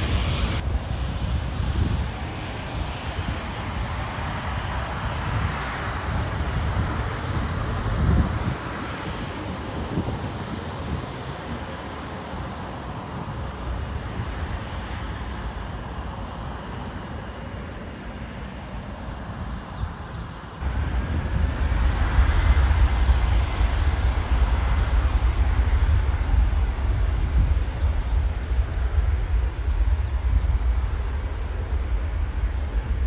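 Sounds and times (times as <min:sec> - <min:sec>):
jet engine rumble: 0:00.0 - 0:33.0.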